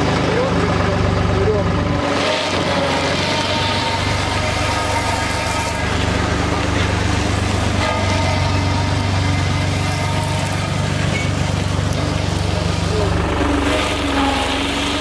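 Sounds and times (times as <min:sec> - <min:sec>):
diesel engine running: 0:00.0 - 0:15.0
steel drum crushing dry pasta: 0:02.0 - 0:15.0.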